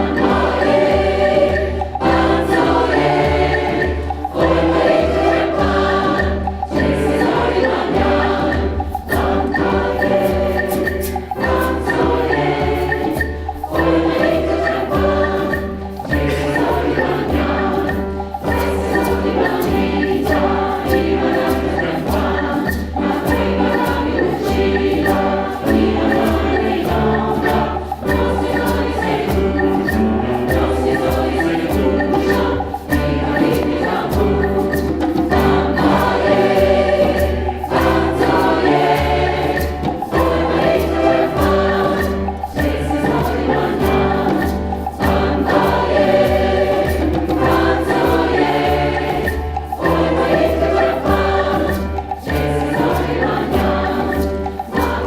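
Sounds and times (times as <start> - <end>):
choir singing: 0.0 - 55.0
hand percussion beat: 0.0 - 55.0.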